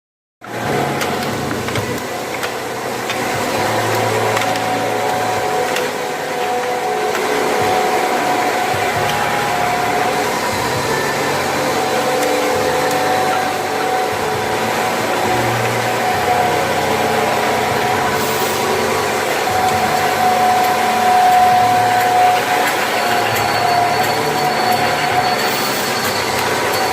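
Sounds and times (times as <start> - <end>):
bottle-filling machine hum: 0.4 - 26.9
machine whining tones: 0.4 - 26.9.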